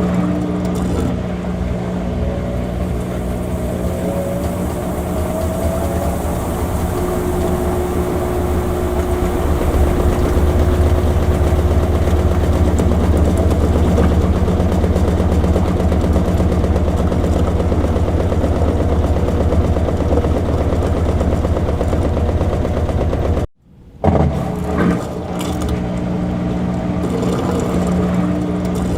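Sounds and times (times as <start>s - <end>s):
washing machine motor hum: 0.0s - 23.5s.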